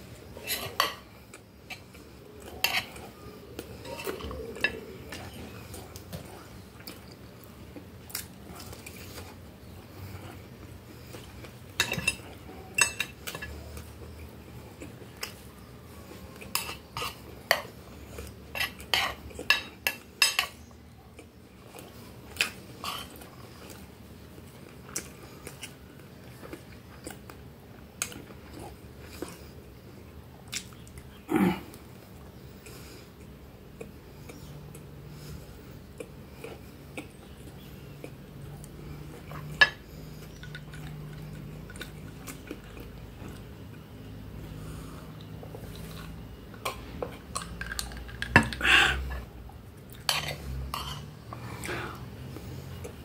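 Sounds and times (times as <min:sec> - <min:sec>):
chewing: 0:00.4 - 0:53.0.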